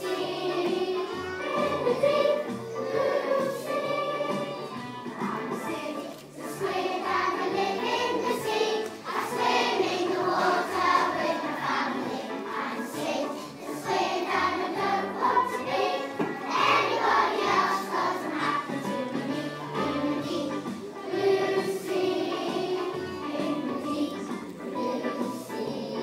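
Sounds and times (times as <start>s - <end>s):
children singing in unison: 0.0s - 26.0s
low accompanying music: 0.0s - 26.0s.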